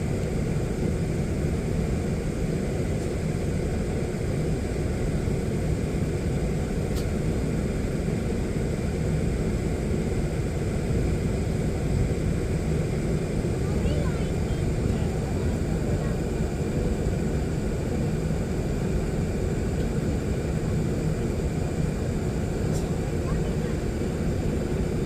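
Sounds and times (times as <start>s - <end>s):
airliner rumble and hiss: 0.0s - 25.0s.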